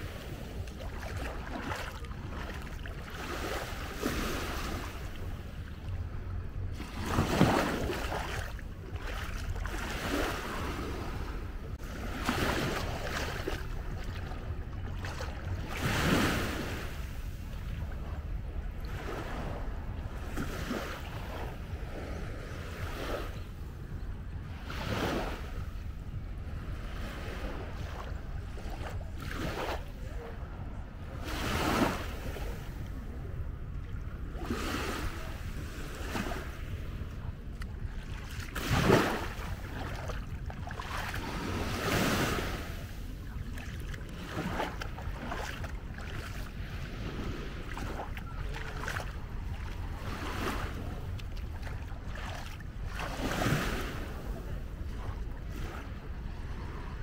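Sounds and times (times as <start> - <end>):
sea waves washing on beach: 0.0 - 23.6, 33.9 - 57.0
wind rumble on microphone: 0.0 - 57.0.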